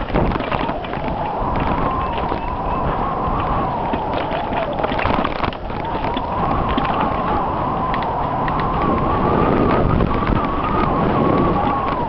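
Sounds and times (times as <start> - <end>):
bike rattles and clicks: 0.0 - 12.0
steady high whine: 0.0 - 12.0
wind rushing over microphone: 0.0 - 12.0.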